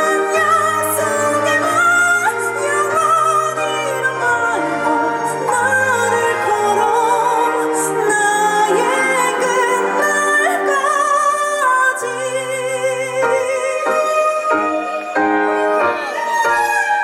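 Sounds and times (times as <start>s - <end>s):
woman singing a slow ballad: 0.0s - 17.0s.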